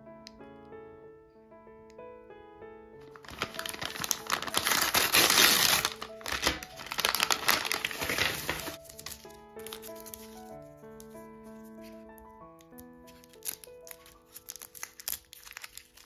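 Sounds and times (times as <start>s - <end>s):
candy wrappers crinkling: 3.0s - 16.0s.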